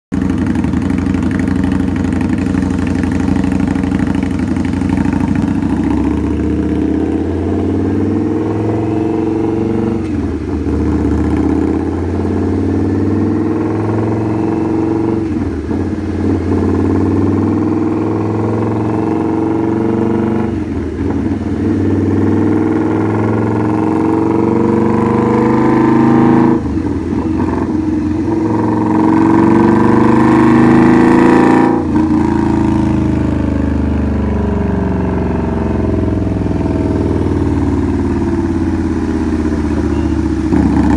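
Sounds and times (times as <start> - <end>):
motorcycle engine revving: 0.1 - 40.9.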